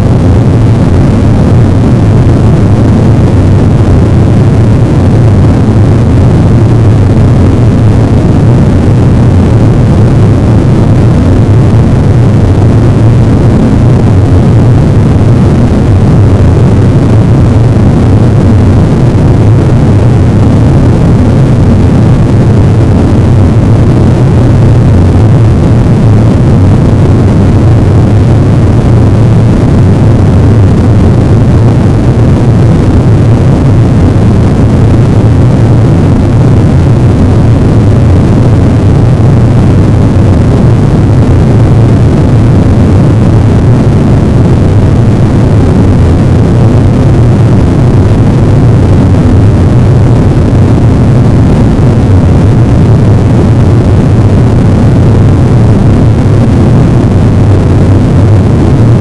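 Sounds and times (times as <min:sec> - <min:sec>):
dense rumbling noise wall: 0:00.0 - 0:59.0.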